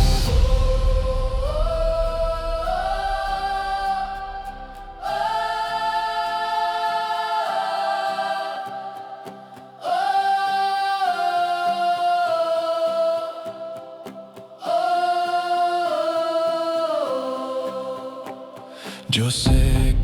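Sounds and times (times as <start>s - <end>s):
choir singing a hymn: 0.0s - 20.0s.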